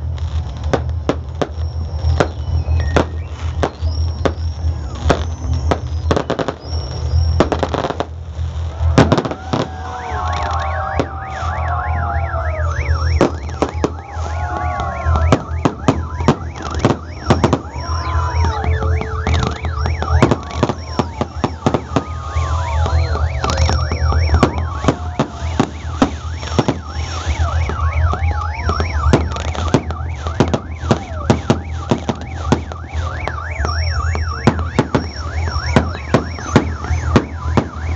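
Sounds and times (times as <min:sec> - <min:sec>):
fireworks bangs and crackling: 0:00.0 - 0:37.9
whistling fireworks: 0:00.0 - 0:37.9.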